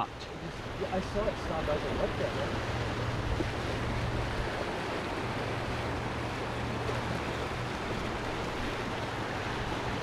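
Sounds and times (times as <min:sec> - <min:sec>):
river rushing over riffles: 0:00.0 - 0:10.0.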